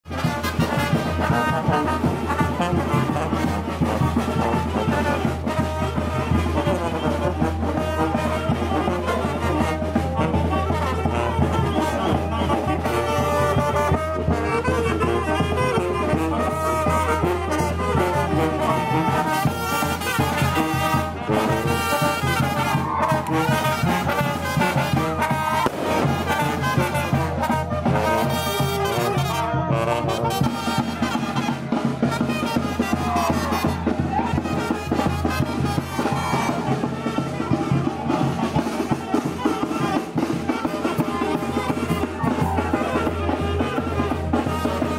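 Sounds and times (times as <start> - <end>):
brass band playing: 0.0 - 44.9.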